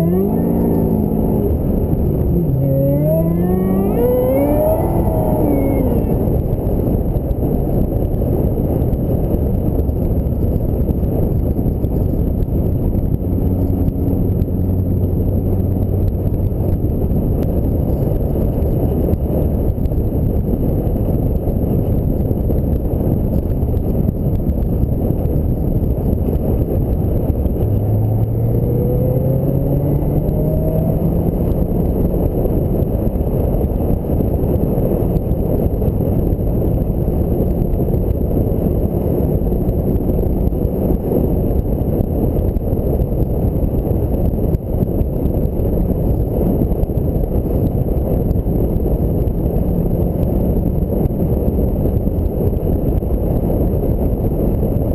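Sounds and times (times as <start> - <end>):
car engine: 0.0 - 54.9
wind and road noise: 0.0 - 54.9.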